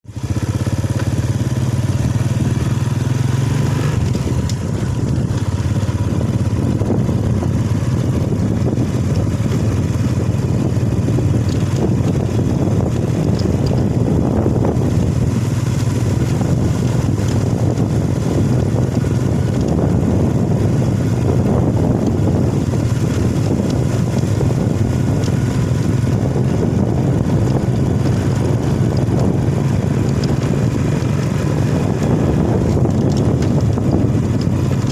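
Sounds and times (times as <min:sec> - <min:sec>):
motorcycle engine running: 0:00.0 - 0:34.9
road noise: 0:00.0 - 0:34.9.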